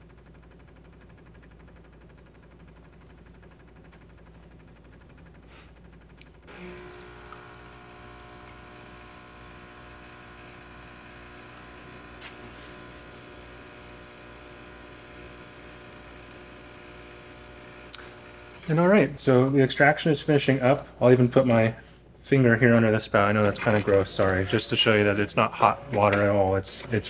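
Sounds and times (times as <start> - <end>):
espresso machine pump humming: 0.0 - 21.7, 23.2 - 27.0.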